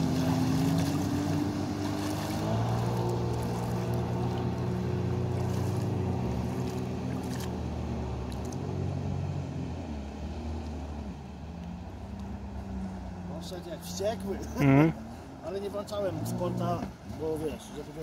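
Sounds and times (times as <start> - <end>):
jet ski engine drone: 0.0 - 18.0.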